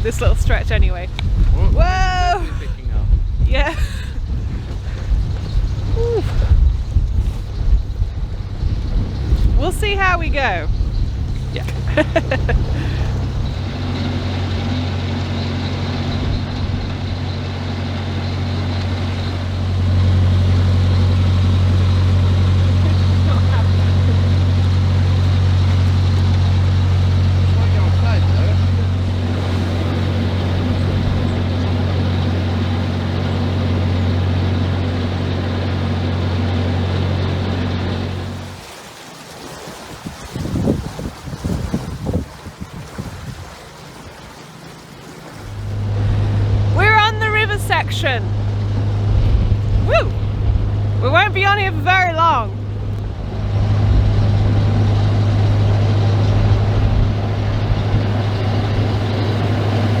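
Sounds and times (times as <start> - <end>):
hiss of wind and water: 0.0 - 46.9, 52.6 - 60.0
diesel boat engine humming: 0.0 - 60.0.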